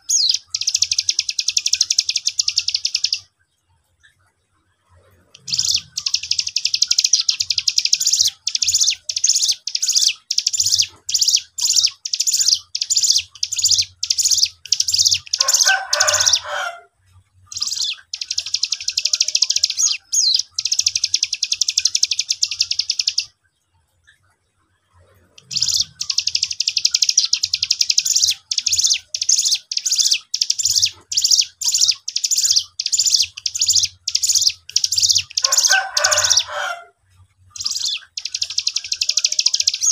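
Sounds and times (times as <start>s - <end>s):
songbird trilling song: 0.0s - 3.4s, 5.3s - 16.7s, 17.5s - 23.4s, 25.4s - 36.8s, 37.5s - 39.9s.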